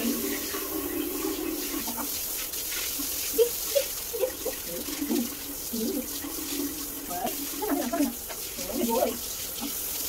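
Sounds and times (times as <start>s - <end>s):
shower spray hissing: 0.0s - 10.0s
water splashes: 0.0s - 10.0s.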